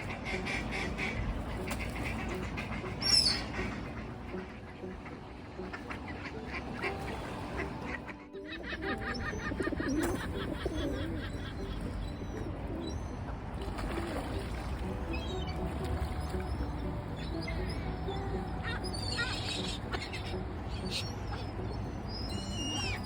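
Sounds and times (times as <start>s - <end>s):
gulls and ducks calling: 0.0s - 23.0s.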